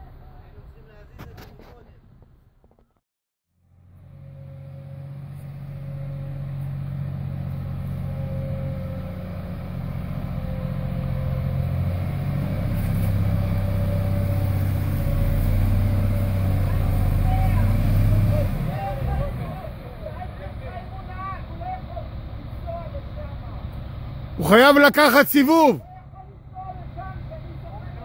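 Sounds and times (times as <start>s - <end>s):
wheel loader diesel engine: 3.6s - 28.0s.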